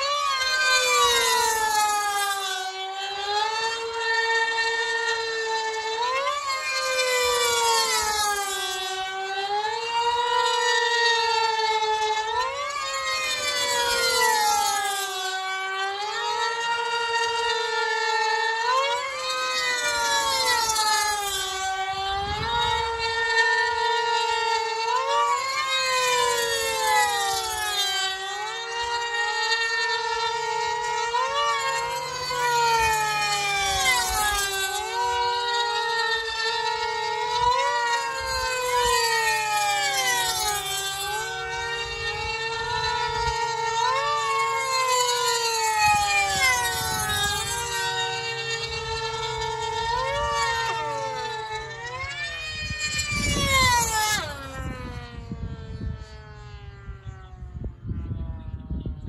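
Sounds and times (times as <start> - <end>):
model plane engine screaming: 0.0 - 59.0.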